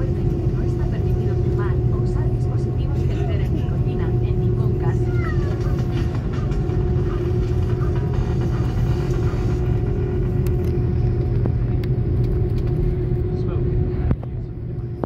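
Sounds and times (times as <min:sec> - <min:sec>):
constant cabin hum: 0:00.0 - 0:15.0
jet engines rumbling: 0:00.0 - 0:15.0.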